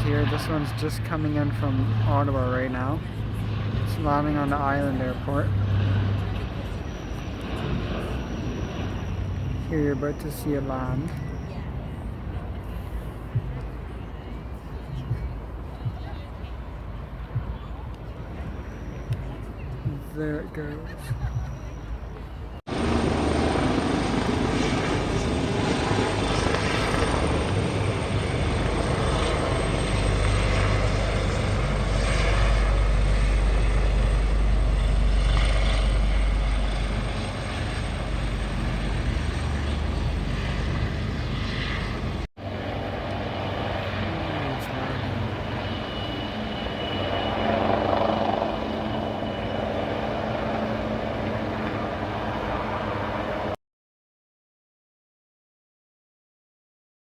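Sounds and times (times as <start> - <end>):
propeller aircraft engines: 0.0 - 53.6.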